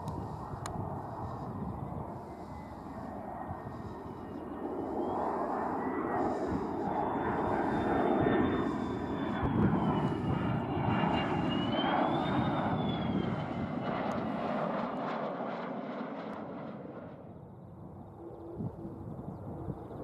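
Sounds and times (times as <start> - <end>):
jet engine roar with high whine: 0.0 - 20.0.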